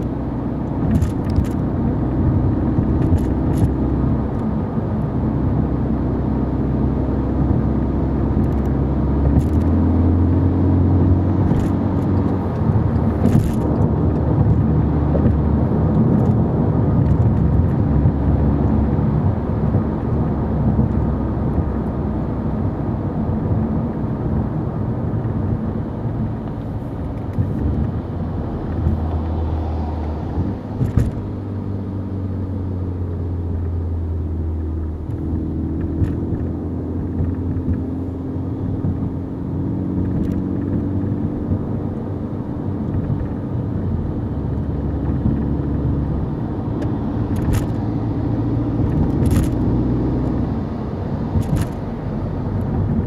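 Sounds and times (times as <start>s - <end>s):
car engine running: 0.0s - 53.0s
road and tyre noise: 0.0s - 53.0s.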